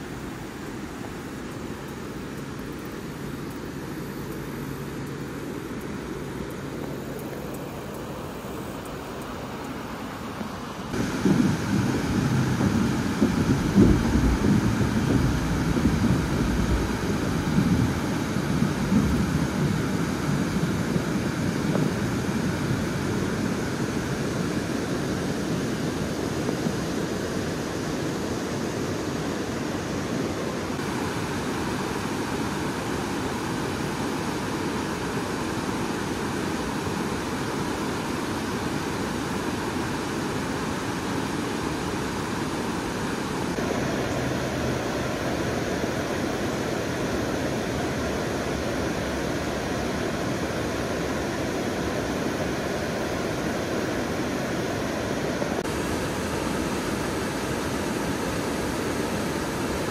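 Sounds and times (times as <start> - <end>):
river rapids rushing over rocks: 0.0 - 59.9.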